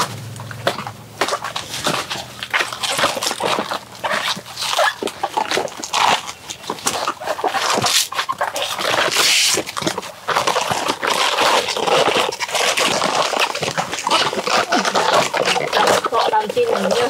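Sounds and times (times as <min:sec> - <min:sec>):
banana trunk sheaths peeled apart: 0:00.0 - 0:17.0.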